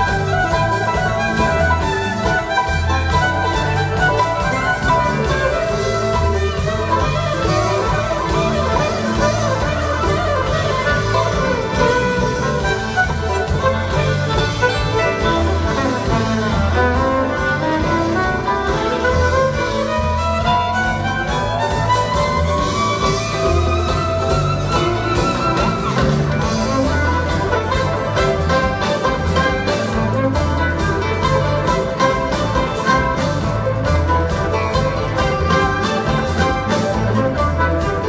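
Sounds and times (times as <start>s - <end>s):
string band instrumental jam: 0.0s - 38.0s.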